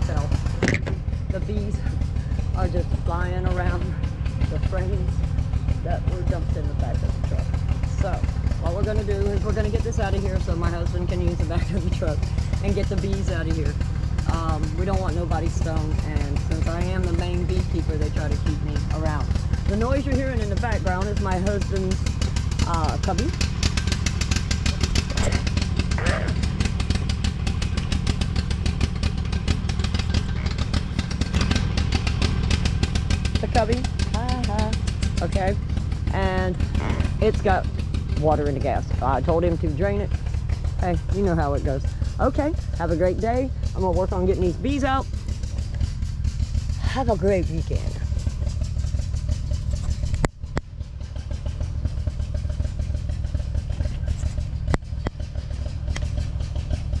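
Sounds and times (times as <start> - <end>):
mower engine running: 0.0 - 57.0.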